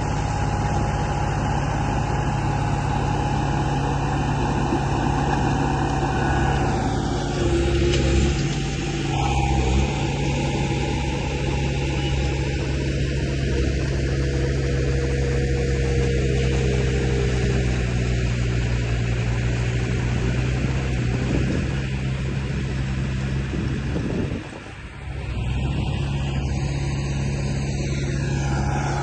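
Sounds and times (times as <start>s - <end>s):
model engine drone: 0.0s - 29.0s.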